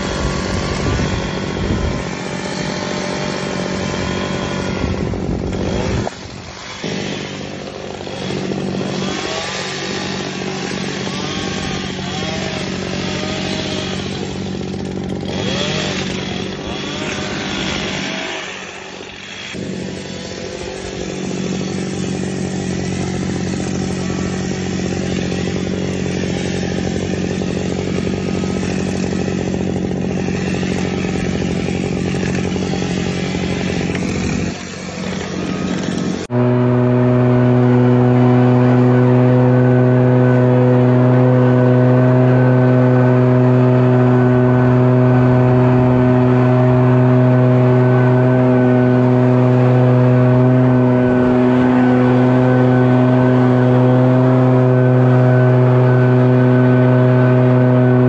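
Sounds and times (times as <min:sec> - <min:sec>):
hedge trimmer cutting shrubs: 0:00.0 - 0:58.0.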